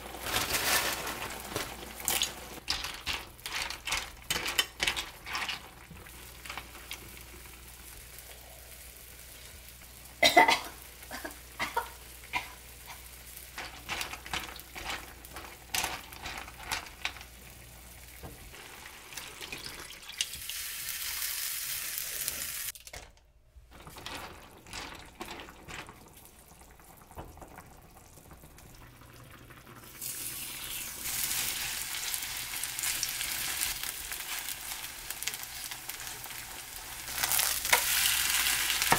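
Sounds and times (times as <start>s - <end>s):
food sizzling in frying pan: 0.0s - 22.8s, 27.9s - 38.9s.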